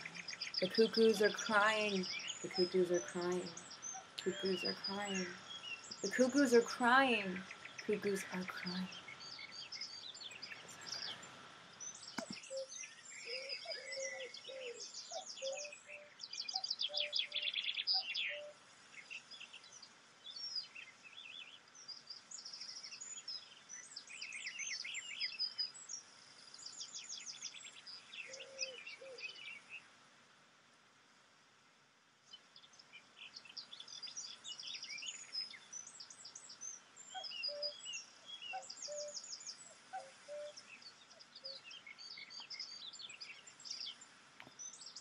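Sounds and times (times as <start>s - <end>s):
birds chirping and trilling: 0.0s - 29.9s, 32.3s - 45.0s.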